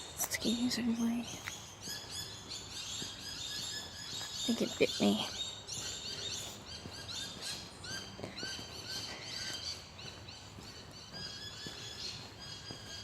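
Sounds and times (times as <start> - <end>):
faint footsteps: 0.0 - 13.0
songbirds chirping: 0.0 - 13.0.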